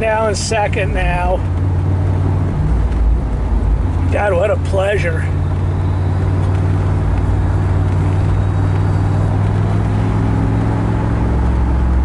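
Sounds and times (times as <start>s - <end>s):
car engine drone: 0.0s - 12.0s
tyre and road noise: 0.0s - 12.0s.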